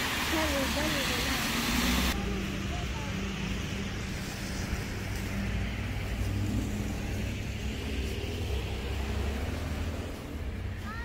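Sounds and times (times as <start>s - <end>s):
engine hum: 0.0s - 11.0s
road traffic rumble: 0.0s - 11.0s.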